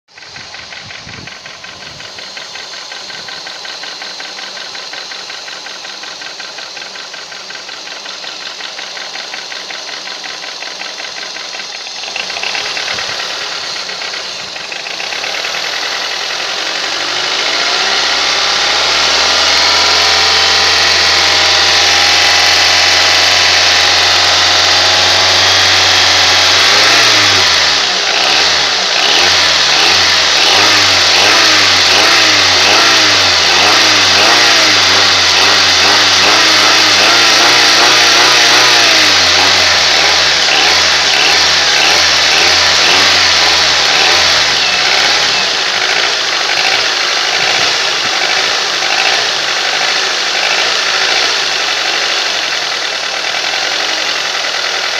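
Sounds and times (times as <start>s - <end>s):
car engine revving: 0.1s - 54.9s
engine knocking: 0.1s - 54.9s.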